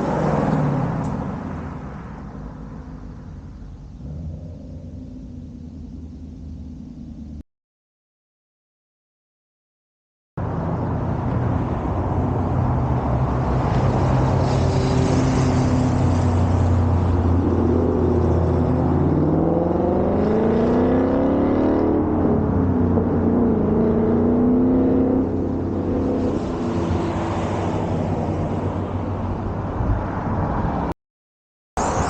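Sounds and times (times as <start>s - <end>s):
car engine accelerating: 0.0s - 7.4s, 10.4s - 29.0s.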